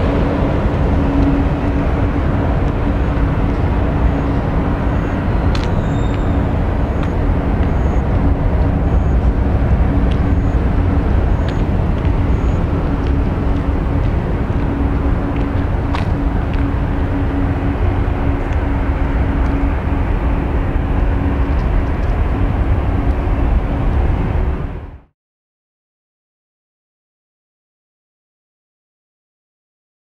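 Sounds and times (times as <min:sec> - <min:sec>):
airplane roar: 0:00.0 - 0:25.1
wind rumble on microphone: 0:00.0 - 0:25.1.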